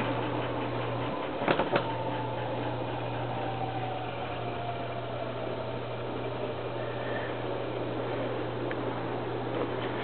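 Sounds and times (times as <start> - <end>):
washer drive whirring: 0.0 - 10.0.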